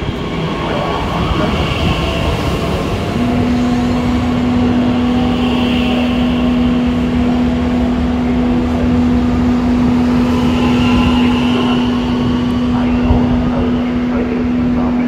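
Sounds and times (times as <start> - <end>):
rumbling noise: 0.0 - 15.0
train humming: 0.0 - 15.0.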